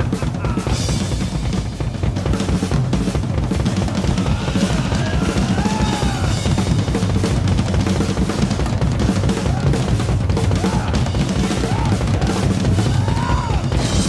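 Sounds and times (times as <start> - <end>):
rock drum solo: 0.0 - 14.0.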